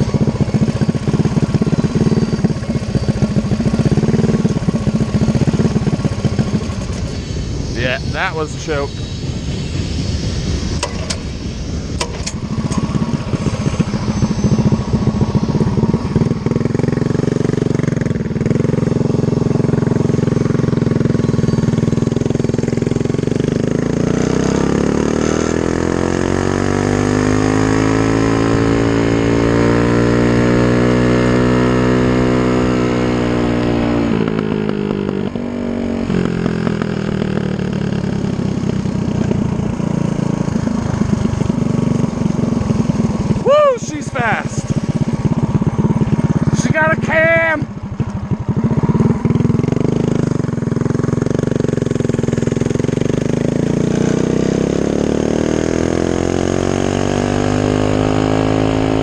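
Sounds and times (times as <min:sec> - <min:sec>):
small engine running hard: 0:00.0 - 0:59.0.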